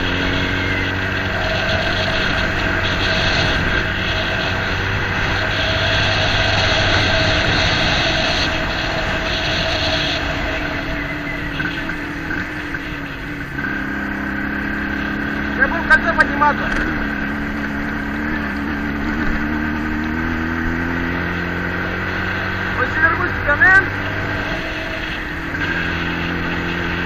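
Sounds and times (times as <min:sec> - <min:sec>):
road and wind noise: 0:00.0 - 0:27.0
vehicle engine running: 0:00.0 - 0:27.0.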